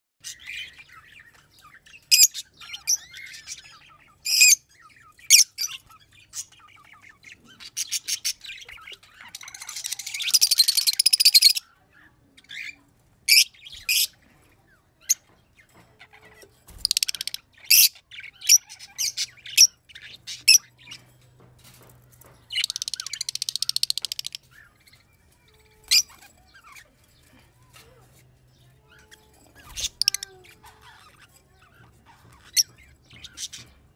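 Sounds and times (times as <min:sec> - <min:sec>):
lovebirds chirping and squawking: 0:00.2 - 0:33.9
rapid bird chatter: 0:00.2 - 0:33.9.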